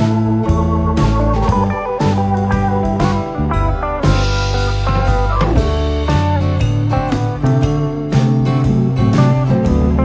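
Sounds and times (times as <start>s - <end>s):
bass line: 0.0s - 10.0s
guitar background music: 0.0s - 10.0s.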